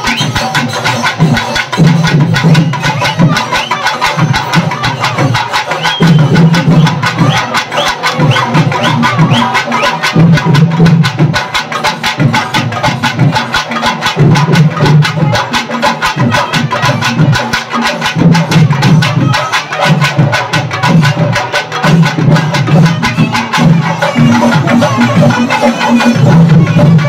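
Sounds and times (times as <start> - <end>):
drums beating fast rhythm: 0.0 - 27.0.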